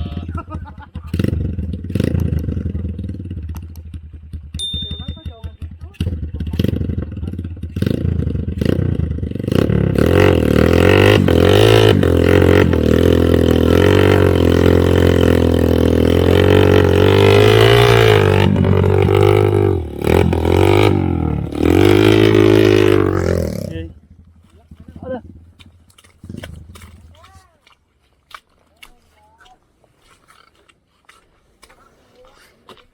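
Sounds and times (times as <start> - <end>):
motorcycle engine running hard: 0.0 - 27.1.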